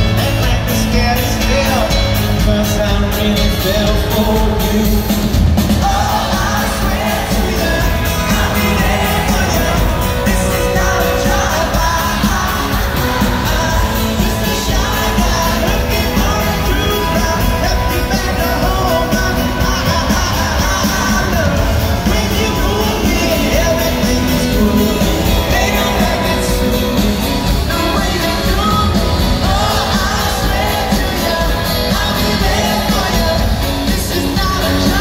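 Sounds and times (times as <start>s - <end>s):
live pop-rock band playing: 0.0s - 35.0s
man singing lead vocal: 0.0s - 35.0s.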